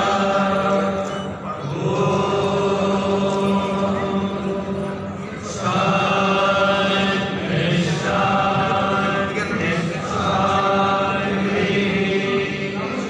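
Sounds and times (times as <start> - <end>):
group chanting: 0.0 - 13.0.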